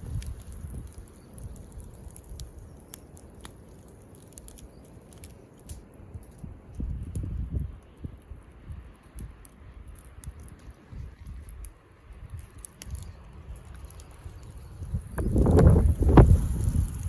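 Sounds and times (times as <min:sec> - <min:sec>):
wind rumble on microphone: 0:00.0 - 0:02.8, 0:06.1 - 0:17.0
campfire crackling and popping: 0:00.0 - 0:17.0.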